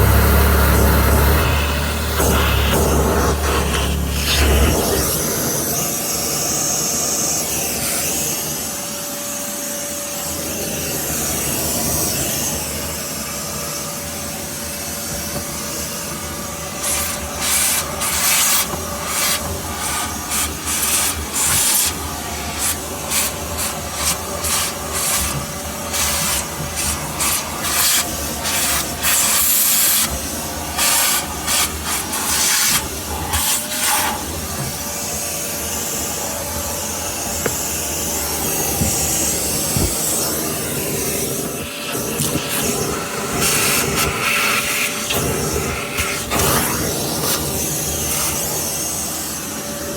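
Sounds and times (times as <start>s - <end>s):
vacuum cleaner on carpet: 0.0s - 49.9s
vacuum nozzle hissing surges: 0.0s - 49.9s.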